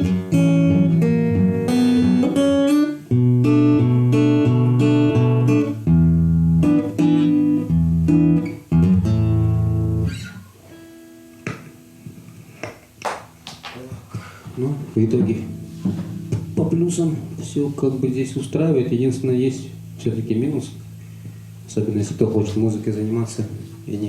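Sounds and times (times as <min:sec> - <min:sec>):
acoustic guitar playing: 0:00.0 - 0:13.4, 0:14.8 - 0:24.0.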